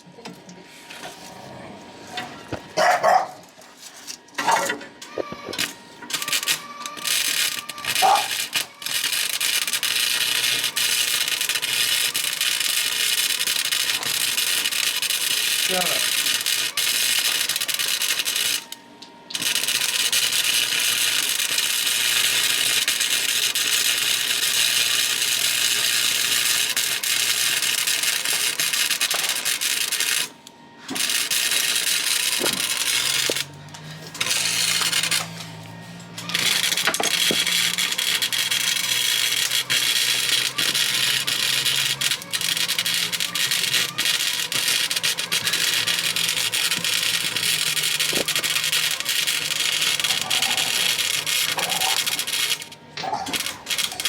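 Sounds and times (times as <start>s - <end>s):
welding arc crackling and hissing: 5.5s - 18.8s, 19.4s - 54.0s.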